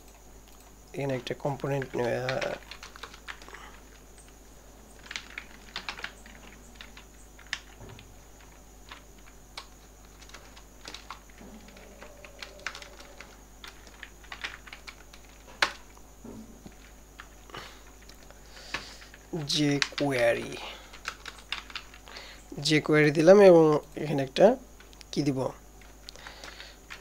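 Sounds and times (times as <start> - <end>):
computer keyboard typing: 0.0 - 16.0, 16.7 - 22.4, 25.8 - 27.0.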